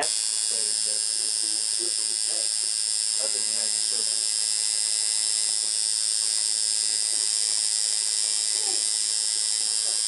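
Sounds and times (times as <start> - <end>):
tattoo machine buzzing: 0.0 - 10.0.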